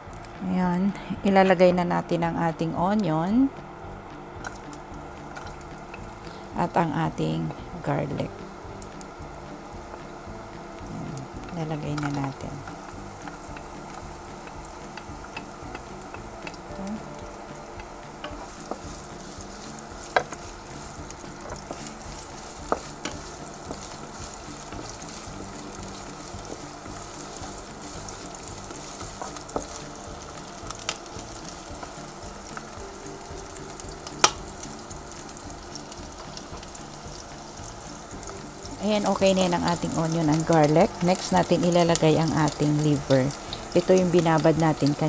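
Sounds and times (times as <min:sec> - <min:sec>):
onion and garlic sizzling in oil: 0:00.0 - 0:45.0.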